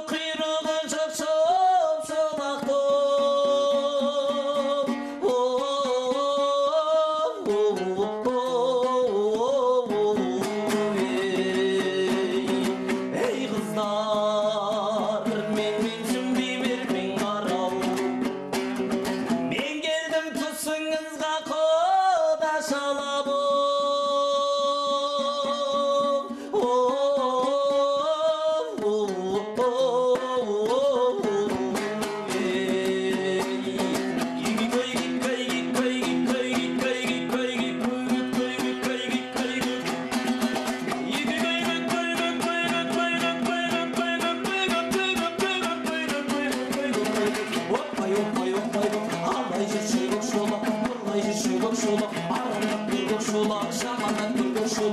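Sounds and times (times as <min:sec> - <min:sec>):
fast-strummed lute: 0:00.0 - 0:54.9
person singing folk song: 0:00.0 - 0:54.9.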